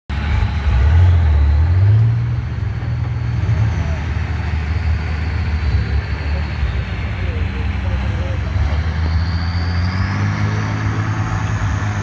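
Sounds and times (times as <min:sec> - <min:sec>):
truck engine at low revs: 0:00.1 - 0:12.0.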